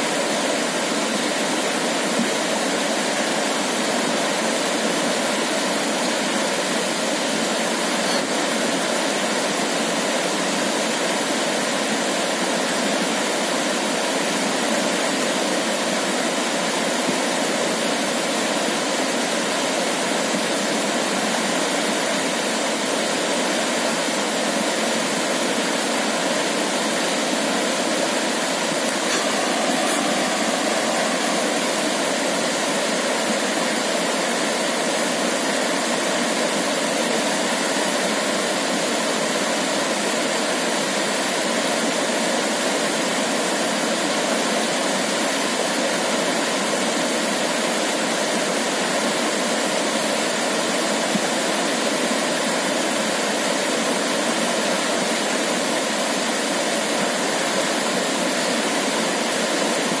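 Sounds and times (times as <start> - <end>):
stream rushing over rocks: 0.0 - 60.0.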